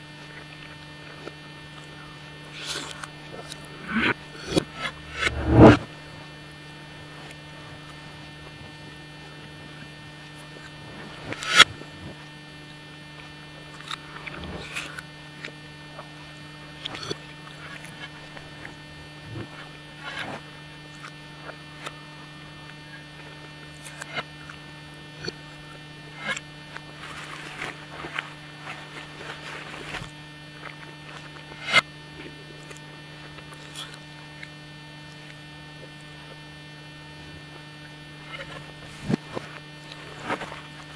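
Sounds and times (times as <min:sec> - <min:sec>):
steady electrical hum: 0:00.0 - 0:40.9.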